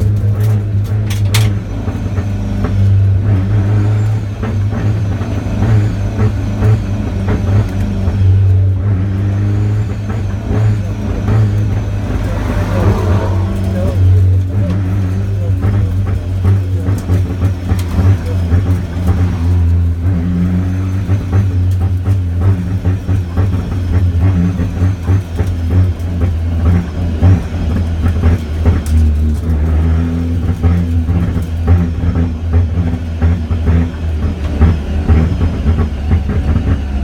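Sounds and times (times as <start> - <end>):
car engine running under load: 0.0 - 37.0.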